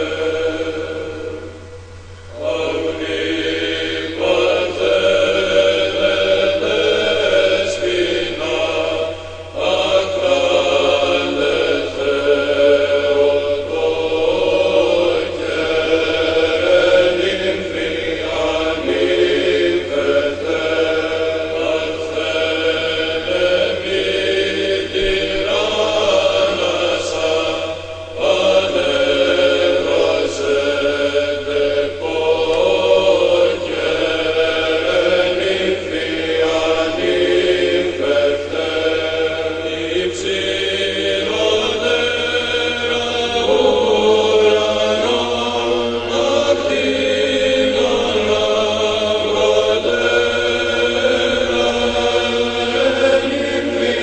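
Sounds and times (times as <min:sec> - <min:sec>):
voices singing religious chant: 0:00.0 - 0:54.0.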